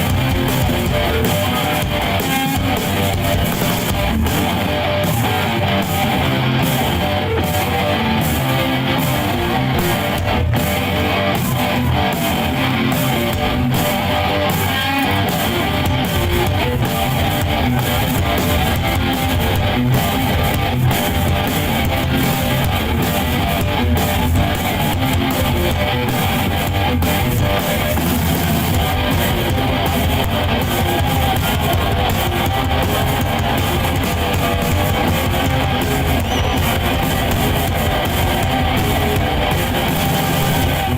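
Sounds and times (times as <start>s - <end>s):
drums and cymbals: 0.0s - 40.9s
electric guitar: 0.0s - 40.9s.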